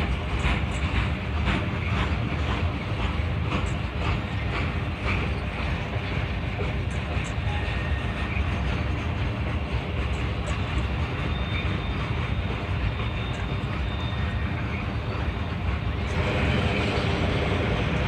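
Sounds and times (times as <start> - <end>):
train bogies rumbling on track: 0.0 - 18.0.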